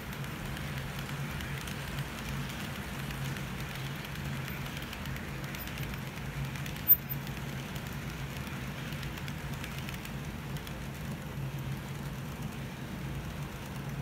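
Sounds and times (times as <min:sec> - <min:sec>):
model train wheels rumbling: 0:00.0 - 0:14.0.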